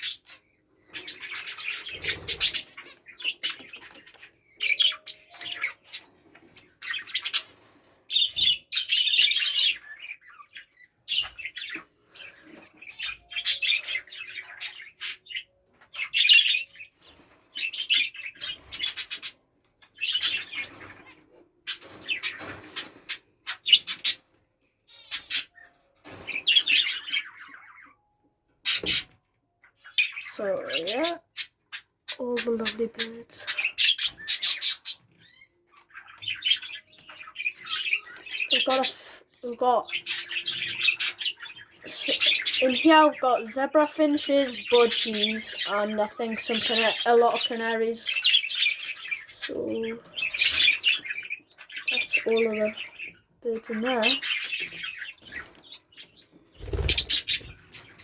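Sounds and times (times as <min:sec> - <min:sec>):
birds chirping and chattering: 0:00.0 - 0:58.0.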